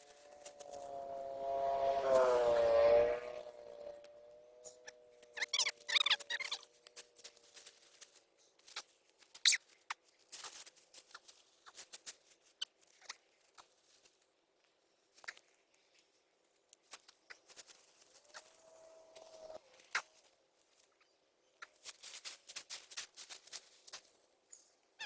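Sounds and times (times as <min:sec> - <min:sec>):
soil and plants rustling: 0:00.0 - 0:03.9, 0:04.6 - 0:25.0.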